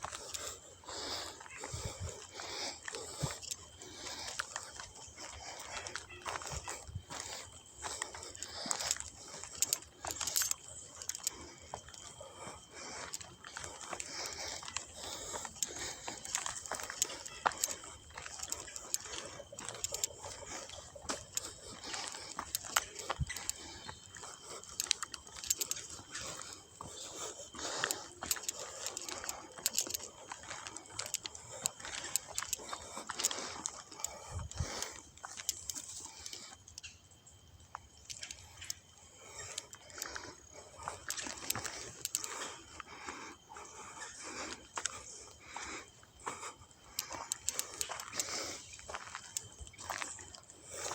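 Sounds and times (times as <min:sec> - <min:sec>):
footsteps on dry leaves and twigs: 0:00.0 - 0:50.9.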